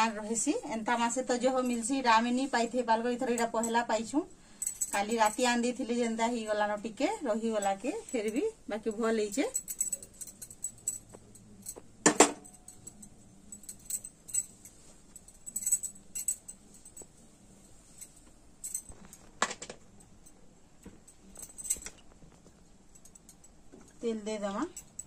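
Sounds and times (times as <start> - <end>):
metallic clinking and jingling: 3.2 - 25.0.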